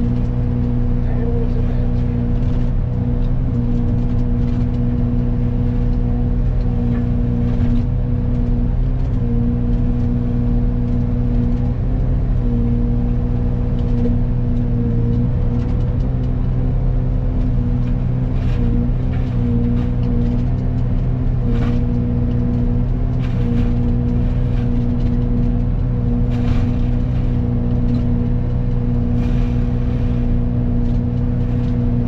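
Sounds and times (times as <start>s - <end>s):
excavator and mulcher hum: 0.0s - 32.0s.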